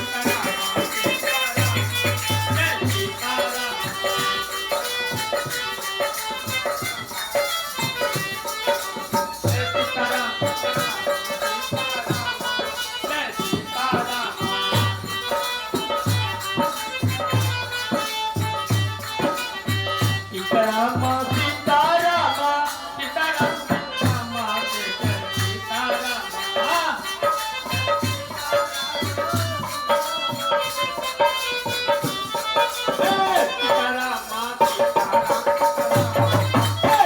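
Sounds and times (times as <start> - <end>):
devotional music: 0.0 - 37.0
shaken hand percussion: 0.0 - 37.0.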